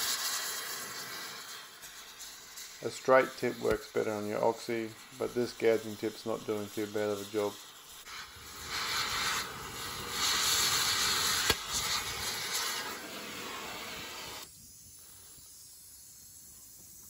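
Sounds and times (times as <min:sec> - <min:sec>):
sharp crack: 0:00.0 - 0:14.5
cutting torch hissing: 0:00.0 - 0:17.0.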